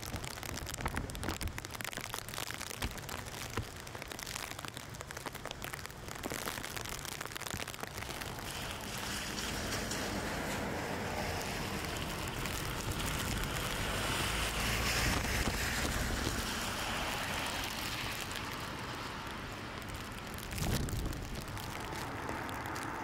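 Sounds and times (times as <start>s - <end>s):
wind rumble on microphone: 0.0s - 4.4s, 5.8s - 23.0s
wind and rain through tree leaves: 0.0s - 23.0s.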